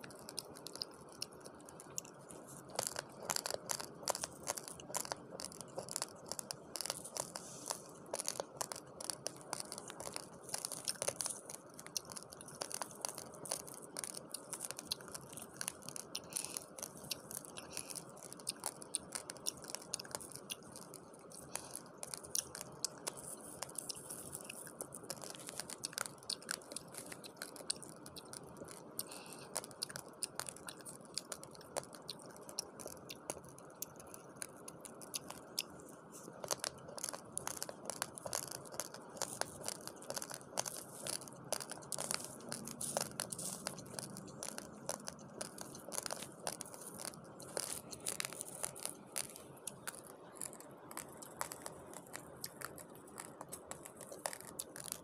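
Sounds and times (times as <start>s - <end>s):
raw rice crunching: 0.0s - 55.0s.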